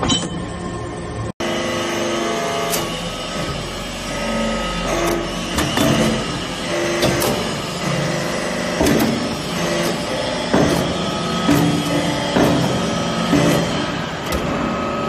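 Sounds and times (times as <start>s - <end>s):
hydraulic press drone: 0.0s - 15.0s.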